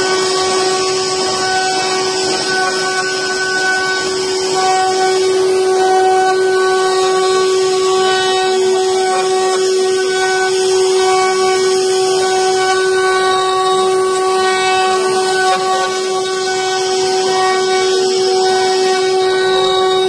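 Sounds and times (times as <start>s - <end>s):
machine spindle high-pitched whine: 0.0s - 20.0s
router bit cutting wood: 0.0s - 20.0s.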